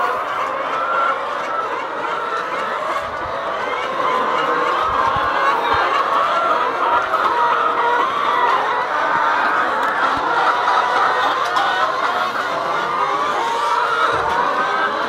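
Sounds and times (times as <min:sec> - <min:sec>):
hens clucking and cackling: 0:00.0 - 0:15.0.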